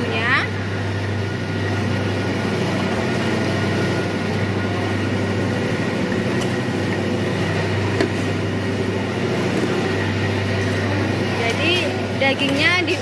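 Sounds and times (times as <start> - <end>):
fan hum and rushing: 0.0 - 13.0.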